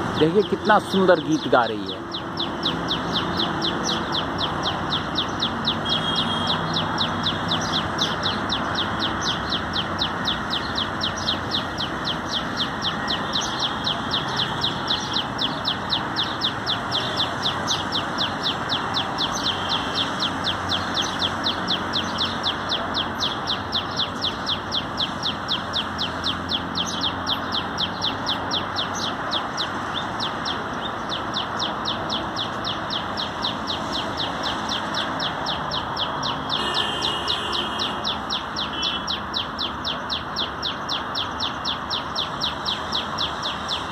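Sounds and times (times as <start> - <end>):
steady background noise: 0.0 - 43.9.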